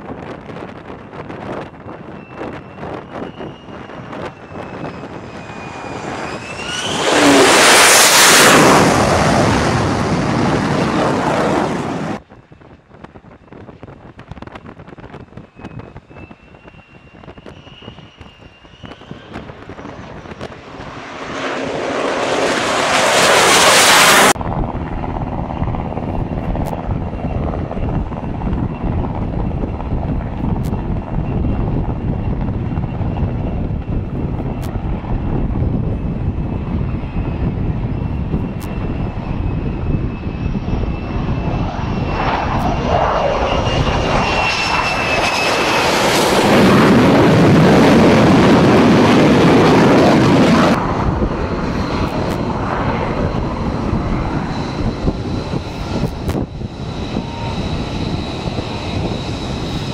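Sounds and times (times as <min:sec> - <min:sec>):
jet flying low overhead: 0:00.0 - 0:59.9
rumble with high whine: 0:00.0 - 0:59.9.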